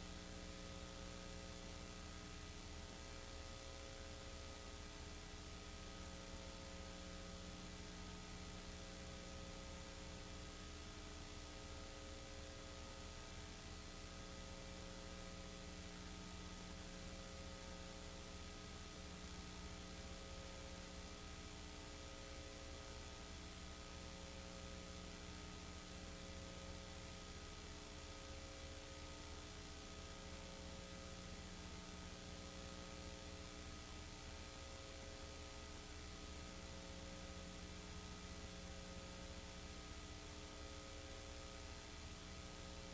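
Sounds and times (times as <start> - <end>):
electrical hum and hiss: 0.0 - 42.9.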